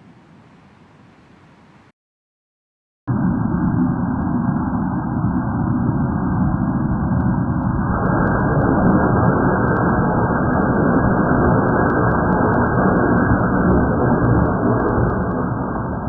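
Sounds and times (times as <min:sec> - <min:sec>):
muffled rumbling: 0:03.1 - 0:16.0.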